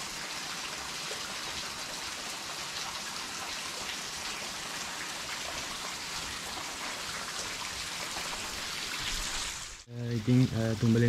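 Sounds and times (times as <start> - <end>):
falling water hiss: 0.0 - 11.0.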